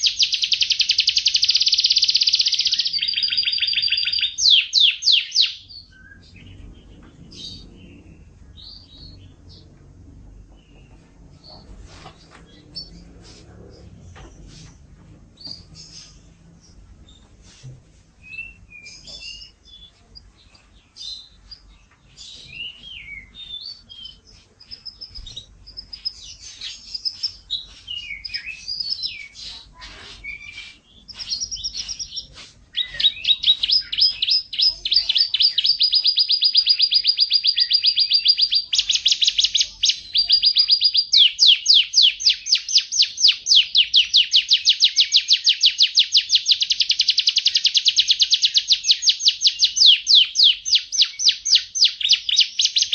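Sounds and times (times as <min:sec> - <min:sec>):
canary singing: 0:00.0 - 0:13.2, 0:15.4 - 0:17.3, 0:18.2 - 0:52.9.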